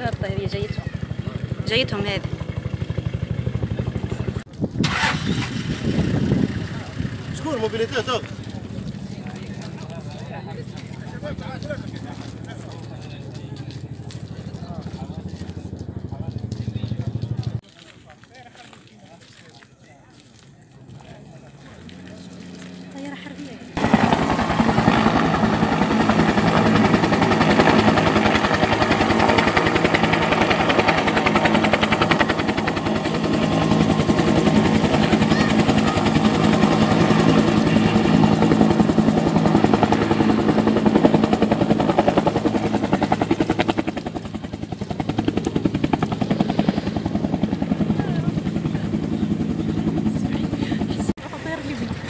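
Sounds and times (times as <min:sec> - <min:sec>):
helicopter engine drone: 0:00.0 - 0:17.6, 0:21.3 - 0:52.0
helicopter rotor chopping: 0:00.0 - 0:17.6, 0:20.9 - 0:52.0.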